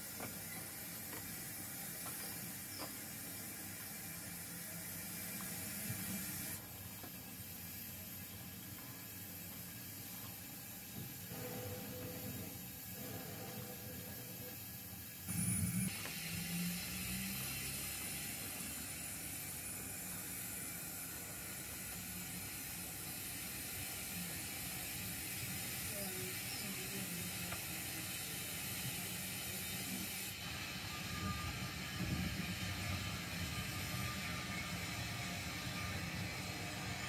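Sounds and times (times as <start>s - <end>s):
model train wheels rumbling on track: 0.0s - 37.0s.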